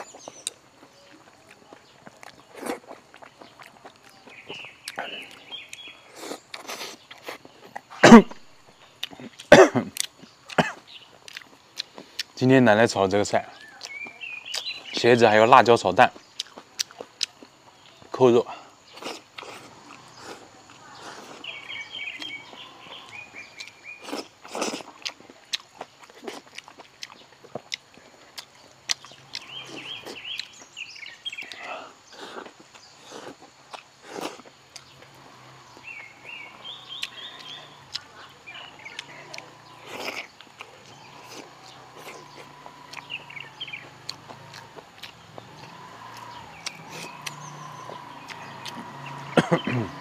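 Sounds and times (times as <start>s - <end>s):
man chewing food: 0.0s - 12.6s, 13.6s - 15.0s, 16.0s - 50.0s
bird chirping: 0.0s - 50.0s.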